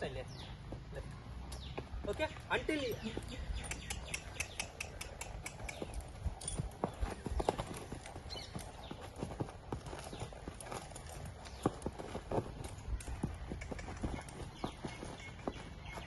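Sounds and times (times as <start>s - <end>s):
horse hooves clip-clopping: 0.4s - 16.0s.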